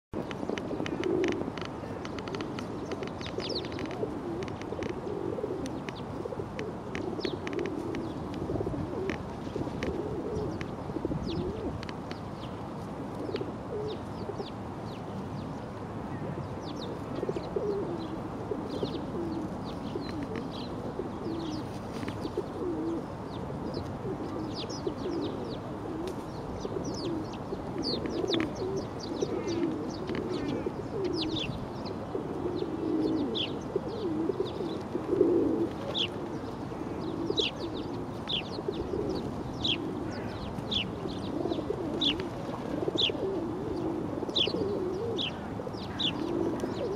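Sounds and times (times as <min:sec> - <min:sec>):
pigeons cooing: 0:00.2 - 0:12.4, 0:13.1 - 0:14.6, 0:16.1 - 0:46.9.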